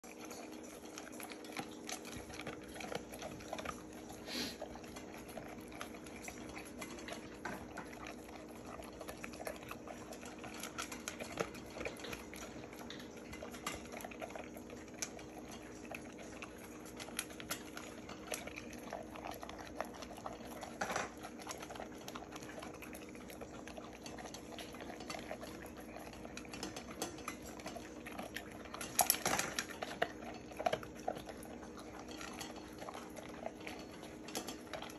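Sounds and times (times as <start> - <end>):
dog chewing and licking: 0.0 - 34.9
teeth clicking on metal bowl: 0.0 - 34.9.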